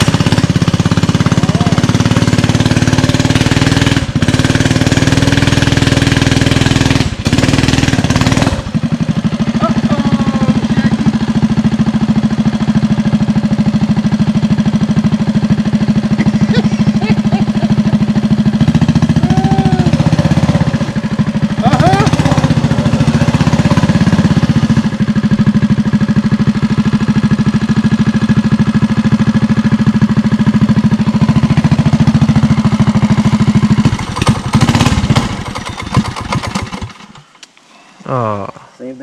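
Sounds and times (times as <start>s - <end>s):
mini bike engine running: 0.0s - 37.4s.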